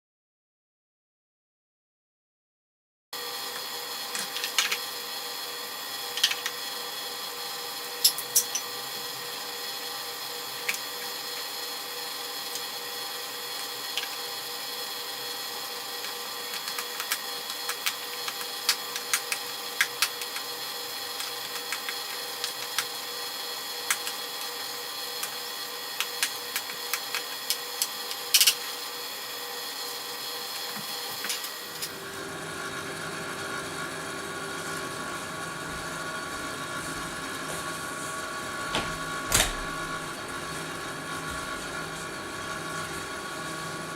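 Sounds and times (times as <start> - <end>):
machine hum with fixed tones: 3.2 - 43.9.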